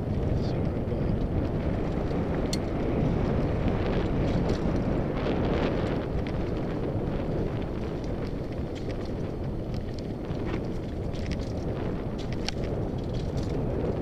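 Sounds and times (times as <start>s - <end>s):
bike clicks and rattles: 0.0s - 14.0s
tyres rolling on dirt: 0.0s - 14.0s
wind buffeting microphone: 0.0s - 14.0s.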